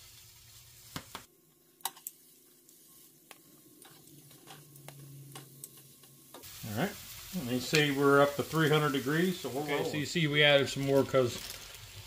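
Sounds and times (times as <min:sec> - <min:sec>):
sausages sizzling: 0:00.0 - 0:12.0.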